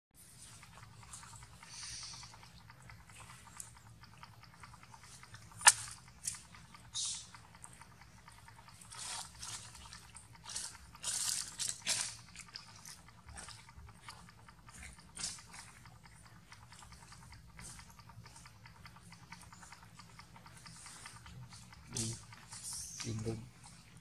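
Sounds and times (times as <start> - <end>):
monkey chewing and crunching food: 0.2 - 24.0.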